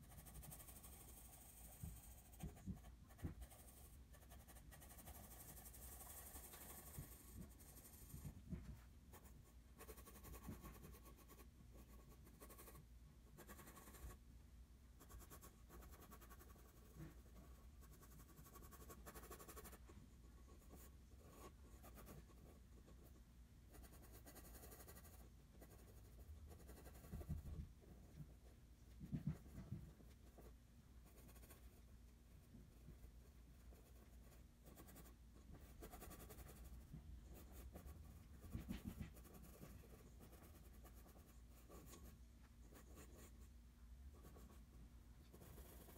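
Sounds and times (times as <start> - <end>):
pencil scratching on paper: 0.0 - 14.2, 15.0 - 27.6, 29.2 - 31.8, 32.7 - 43.5, 44.1 - 44.6, 45.3 - 45.9.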